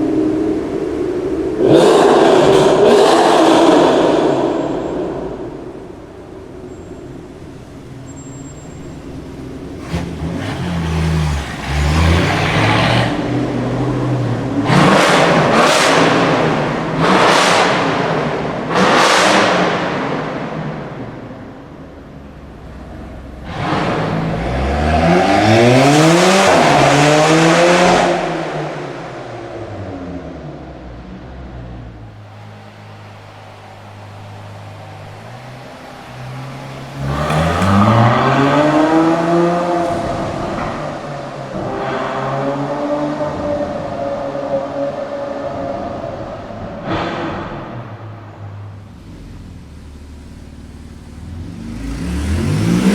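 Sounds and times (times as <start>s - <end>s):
engine revving bursts: 0.0s - 6.5s, 9.2s - 21.2s, 22.6s - 30.8s, 31.8s - 49.8s, 51.1s - 52.9s
sports car engine accelerating: 0.0s - 52.9s.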